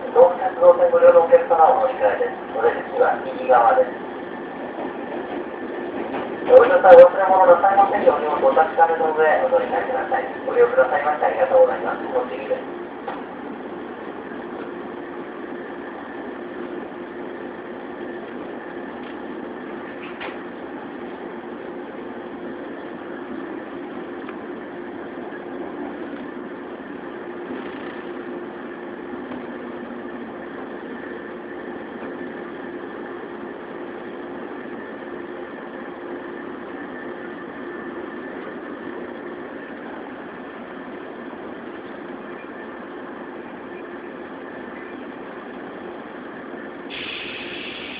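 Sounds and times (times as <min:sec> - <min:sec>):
train motor hum: 0:00.0 - 0:47.9
train wheels rumbling: 0:00.0 - 0:47.9.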